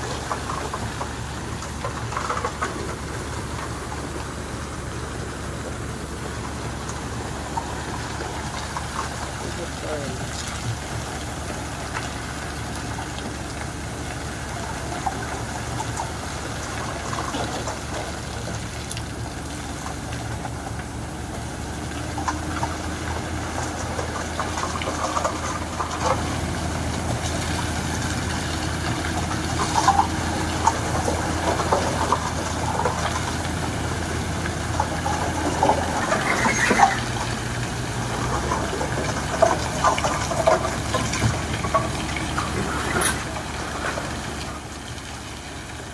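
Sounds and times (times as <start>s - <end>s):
construction machinery engine drone: 0.0s - 45.9s
knocks and clatter of work: 0.0s - 45.9s.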